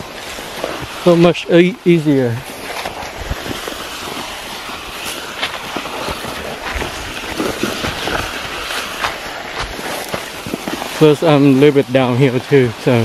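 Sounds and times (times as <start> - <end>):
crackles and knocks: 0.0 - 1.4, 2.4 - 11.8
plastic sled scraping over grass: 0.0 - 13.0.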